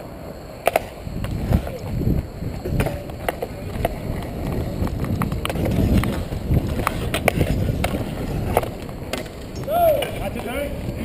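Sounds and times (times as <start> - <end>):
inline skates rolling: 0.0 - 11.0.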